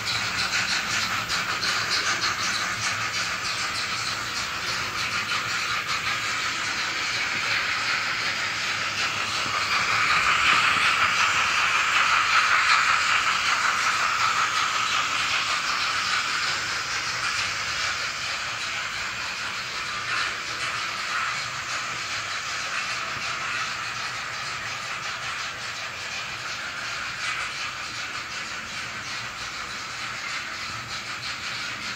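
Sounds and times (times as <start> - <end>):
model train running on track: 0.0 - 31.9
steam locomotive hiss and chuffing: 0.0 - 31.9.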